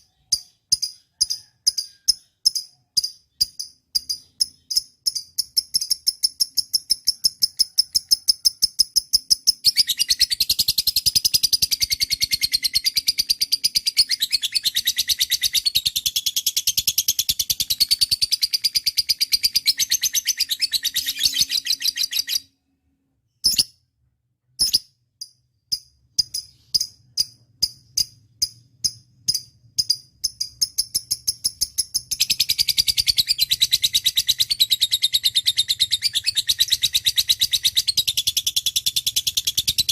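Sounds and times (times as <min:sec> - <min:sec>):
lovebird chirping and chattering: 0:00.0 - 0:22.5, 0:23.3 - 0:23.8, 0:24.6 - 0:39.9.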